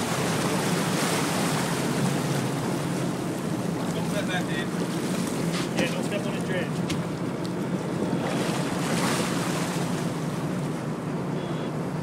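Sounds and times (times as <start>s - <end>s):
boat engine running: 0.0s - 12.0s
water splashing along hull: 0.0s - 12.0s.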